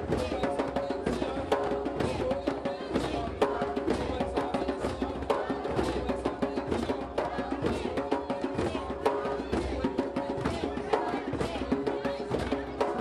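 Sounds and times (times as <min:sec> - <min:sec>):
djembes played by hand: 0:00.0 - 0:13.0.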